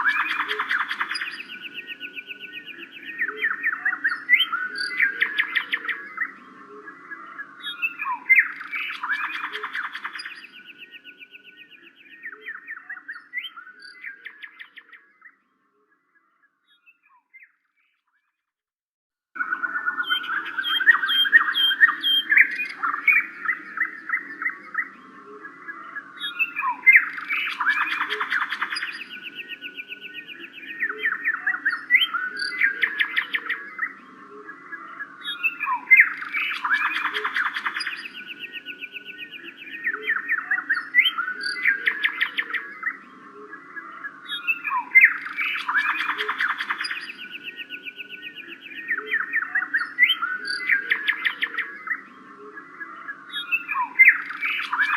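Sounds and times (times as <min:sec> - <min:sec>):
birds chirping and trilling: 0:00.0 - 0:18.5, 0:19.4 - 0:54.9.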